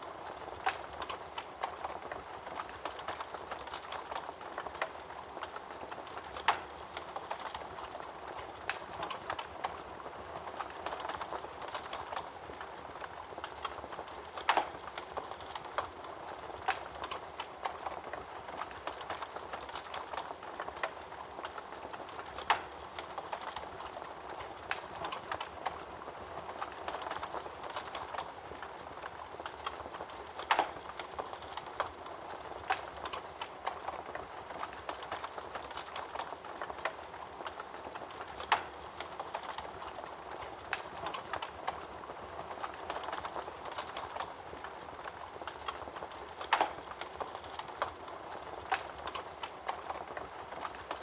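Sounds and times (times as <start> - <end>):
fire crackling: 0.0 - 51.0.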